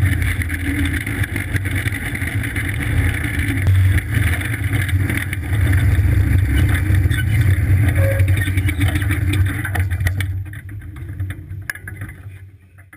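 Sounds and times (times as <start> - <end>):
go-kart engine running: 0.0 - 12.9.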